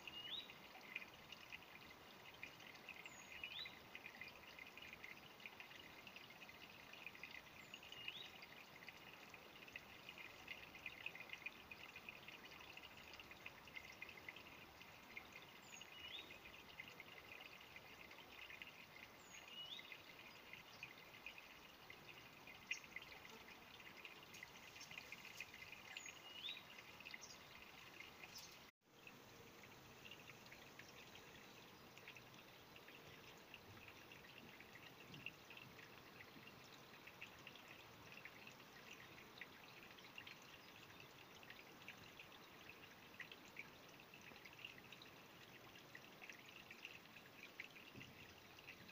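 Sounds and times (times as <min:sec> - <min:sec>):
small stream trickling and gurgling: 0:00.0 - 0:48.9.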